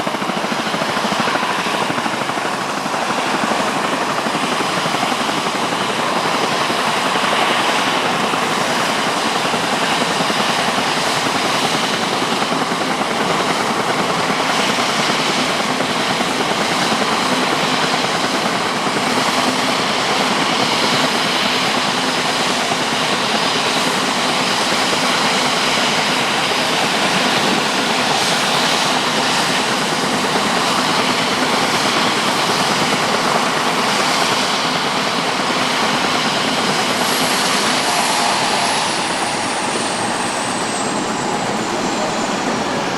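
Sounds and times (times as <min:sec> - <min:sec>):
helicopter running: 0:00.0 - 0:42.9.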